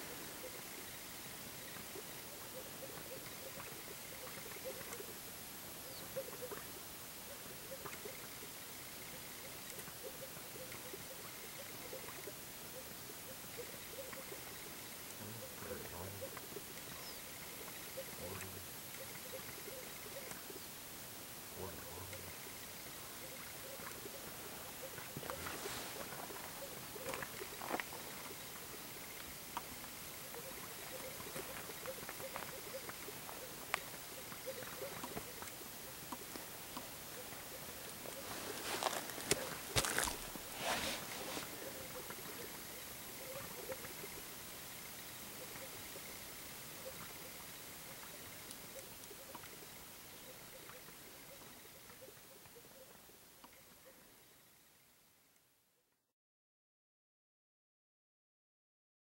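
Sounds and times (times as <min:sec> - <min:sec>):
steady hiss: 0:00.0 - 0:55.4
sage-grouse soft notes: 0:05.8 - 0:20.8, 0:21.5 - 0:54.7.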